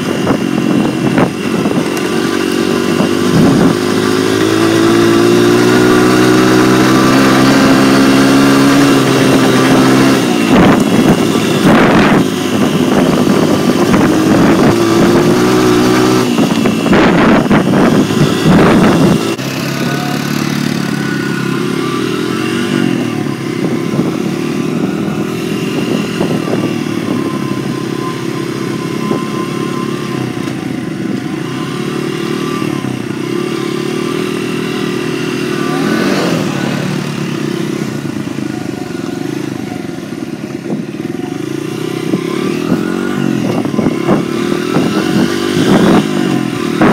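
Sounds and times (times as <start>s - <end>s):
dirt bike engine: 0.0s - 46.9s.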